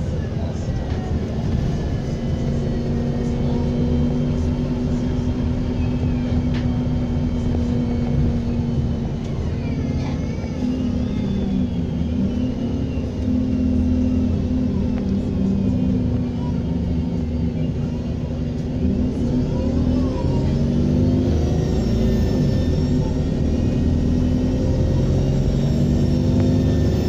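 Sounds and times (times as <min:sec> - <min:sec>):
bus diesel engine droning: 0:00.0 - 0:27.0.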